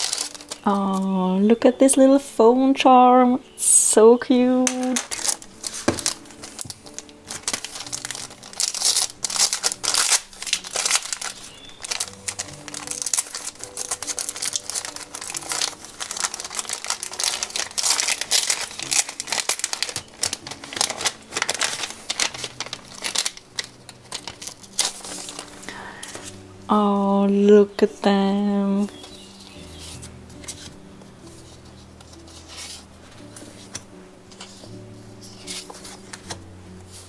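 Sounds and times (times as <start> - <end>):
paper sleeve crinkling: 0.0 - 1.1, 4.7 - 26.5, 28.8 - 37.0
soft background music: 0.0 - 37.0.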